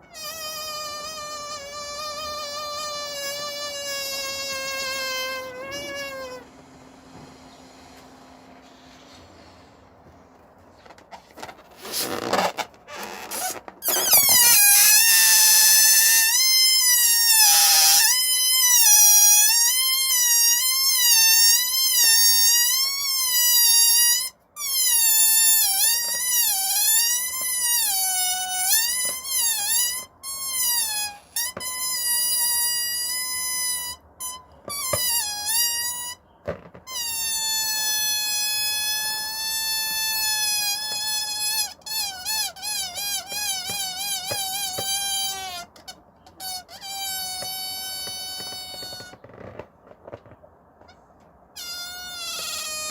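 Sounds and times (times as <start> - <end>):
balloon squealing: 0.0 - 6.5, 10.8 - 52.9.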